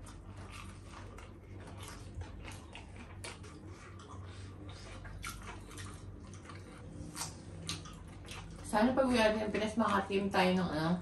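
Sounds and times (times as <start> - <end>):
chewing crispy fried chicken: 0.0 - 10.6
steady low hum: 0.0 - 11.0.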